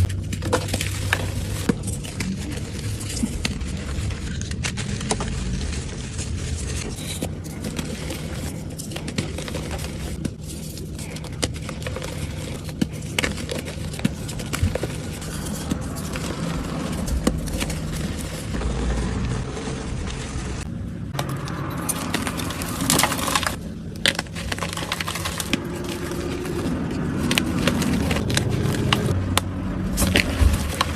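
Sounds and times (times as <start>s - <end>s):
chalk crushing and crumbling: 0.0s - 29.2s.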